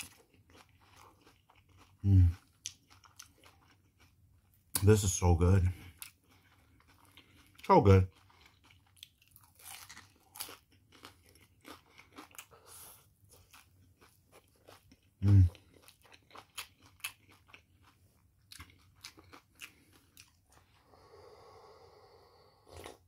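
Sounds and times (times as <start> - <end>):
crunchy chewing: 0.0 - 21.5.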